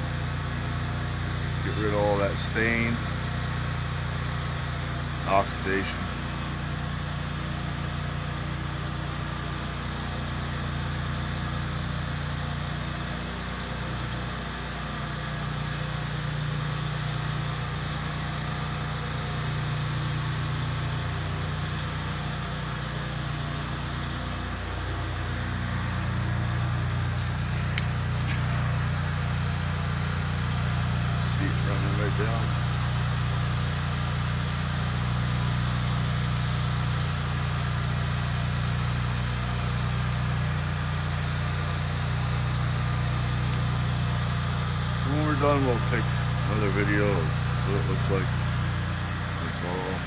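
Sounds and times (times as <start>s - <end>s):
pressure washer engine humming: 0.0s - 50.0s.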